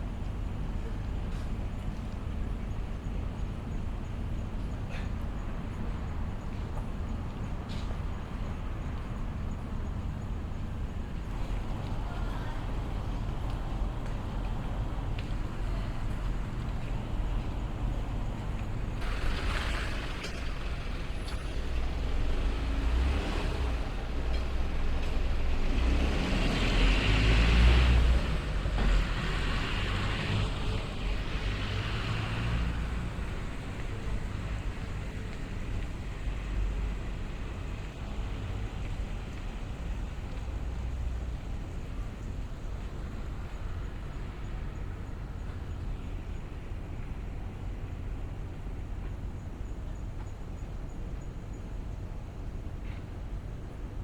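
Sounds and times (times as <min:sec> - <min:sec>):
large vehicle engine rumble: 0:00.0 - 0:51.1
street traffic: 0:00.0 - 0:54.0.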